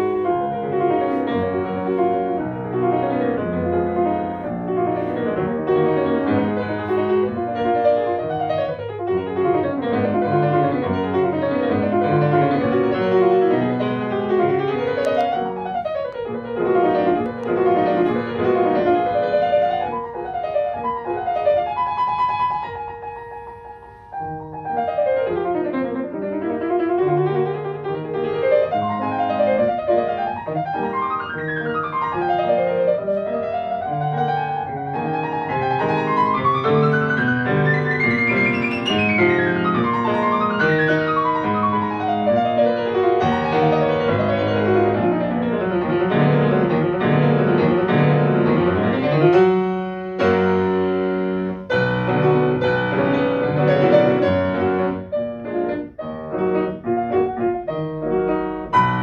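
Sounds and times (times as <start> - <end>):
grand piano classical playing: 0.0 - 59.0.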